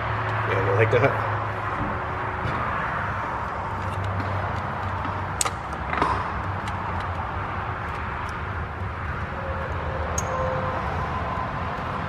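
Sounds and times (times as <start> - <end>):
steady shop hum: 0.0 - 12.0.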